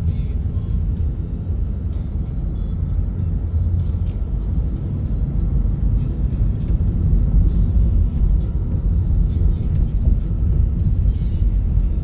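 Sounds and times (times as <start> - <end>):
road and engine rumble inside car: 0.0 - 12.0.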